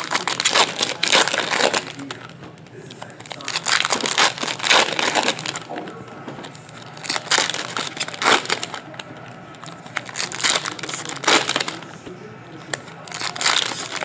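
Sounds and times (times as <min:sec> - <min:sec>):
foil wrappers crinkling: 0:00.0 - 0:14.0.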